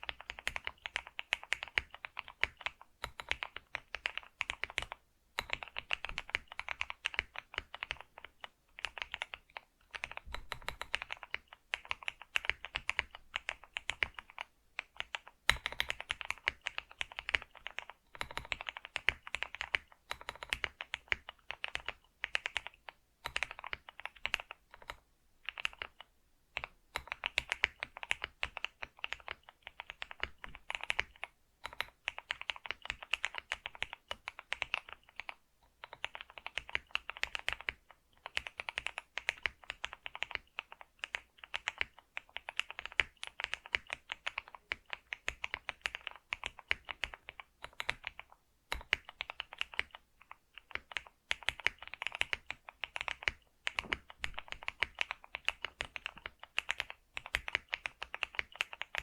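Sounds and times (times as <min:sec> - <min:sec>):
keyboard typing clicks: 0:00.0 - 0:50.0, 0:50.6 - 0:59.0.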